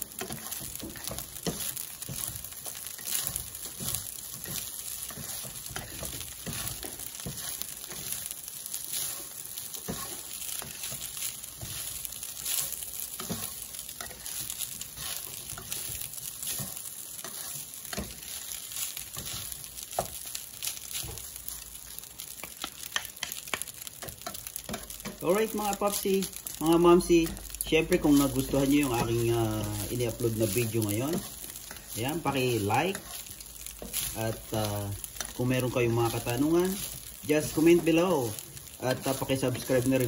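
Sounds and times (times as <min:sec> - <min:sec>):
rice sizzling in a pan: 0:00.0 - 0:40.0
spatula scraping a pan: 0:00.0 - 0:40.0.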